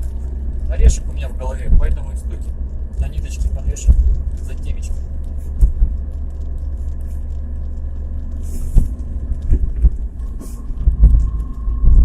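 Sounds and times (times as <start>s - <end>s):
car interior low rumble: 0.0s - 12.0s
drivetrain clunks: 0.0s - 12.0s.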